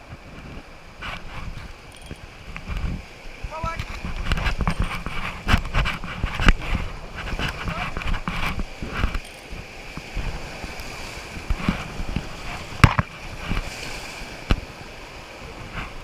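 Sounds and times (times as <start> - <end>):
river water rushing and splashing: 0.0 - 16.0
wind buffeting microphone: 0.0 - 16.0.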